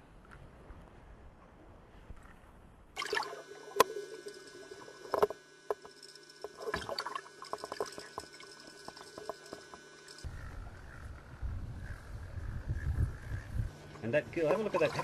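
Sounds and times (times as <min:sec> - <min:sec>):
faint steady tones: 0:03.0 - 0:15.0.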